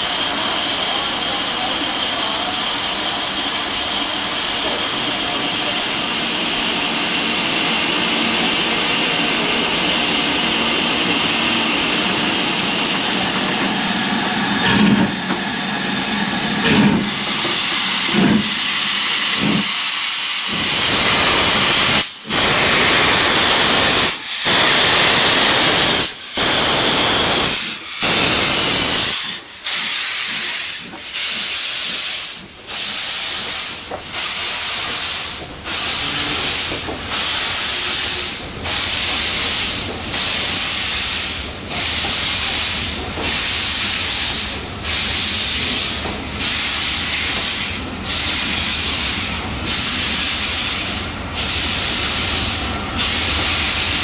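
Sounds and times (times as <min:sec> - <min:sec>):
loud cylinder hiss: 0:00.0 - 0:54.0
steam hissing: 0:00.0 - 0:54.0
steam locomotive chuffing: 0:00.0 - 0:54.0.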